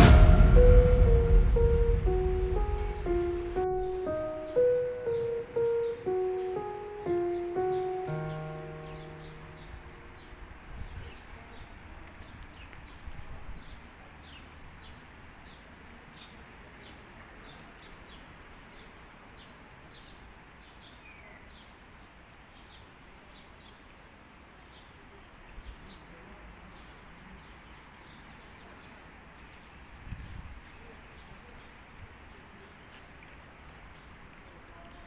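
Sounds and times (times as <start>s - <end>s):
faint outdoor ambience hiss: 0.0s - 35.0s.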